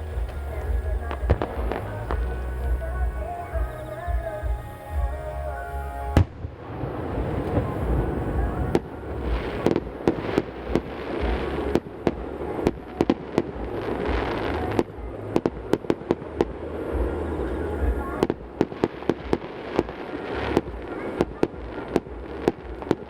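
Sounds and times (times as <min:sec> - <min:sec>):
continuous fireworks rumble: 0:00.0 - 0:23.0
fireworks bangs: 0:00.0 - 0:23.0.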